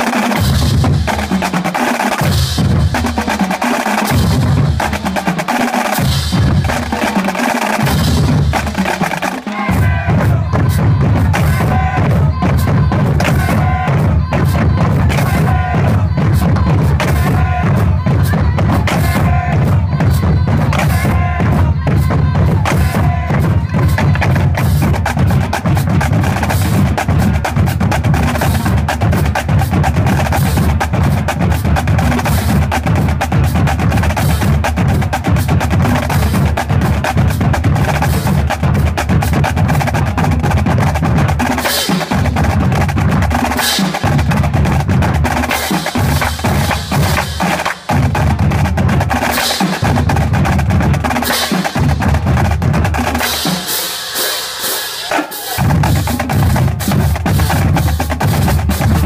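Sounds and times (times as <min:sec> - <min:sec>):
bass drums: 0:00.0 - 0:01.6, 0:02.2 - 0:54.1, 0:55.0 - 0:59.0
snare drum rolls: 0:00.0 - 0:59.0.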